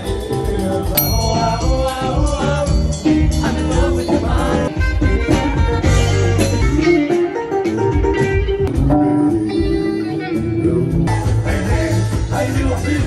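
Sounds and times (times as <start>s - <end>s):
steady bass: 0.0s - 7.0s, 8.1s - 13.0s.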